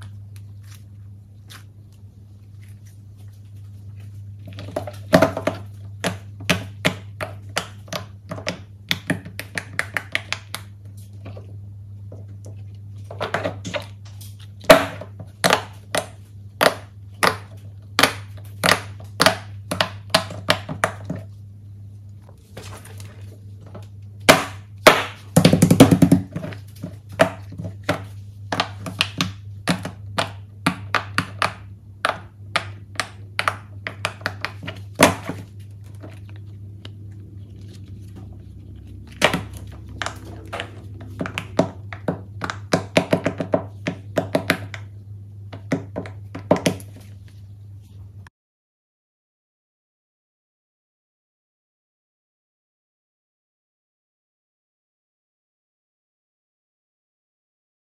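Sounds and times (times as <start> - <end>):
steady low hum: 0.0 - 48.3.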